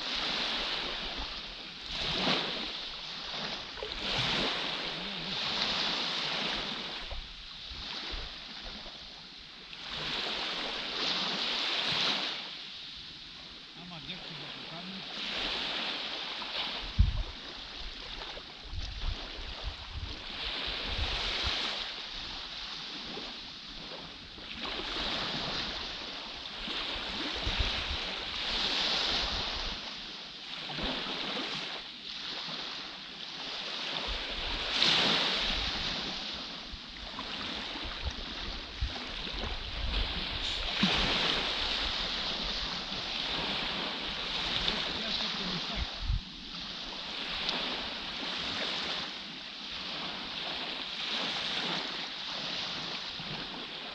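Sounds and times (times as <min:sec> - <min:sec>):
wind rumbling on microphone: 0:00.0 - 0:09.2, 0:15.3 - 0:31.6, 0:33.5 - 0:53.9
small waves washing on sand: 0:00.0 - 0:53.9.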